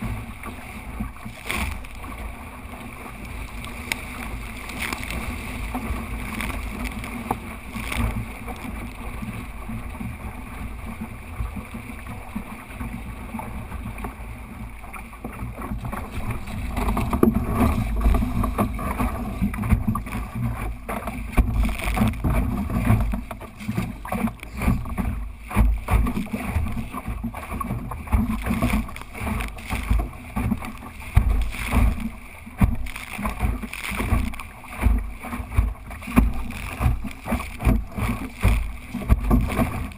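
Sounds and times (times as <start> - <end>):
water slapping along hull: 0.0 - 39.9.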